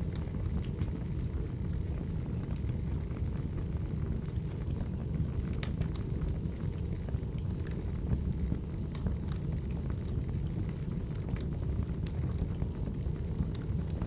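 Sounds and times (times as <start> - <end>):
fire crackles and pops: 0.0 - 14.0
low rumble of flames: 0.0 - 14.0.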